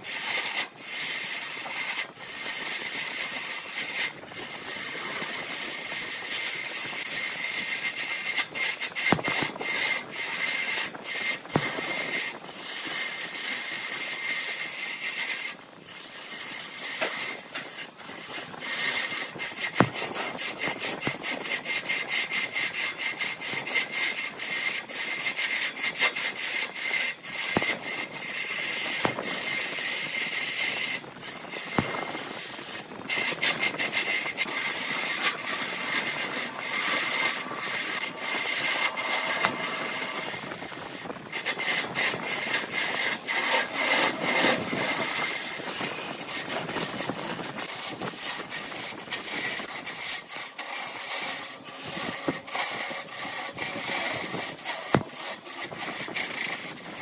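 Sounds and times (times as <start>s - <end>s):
turning tool scraping wood: 0.0s - 57.0s
wood lathe whining: 0.0s - 57.0s.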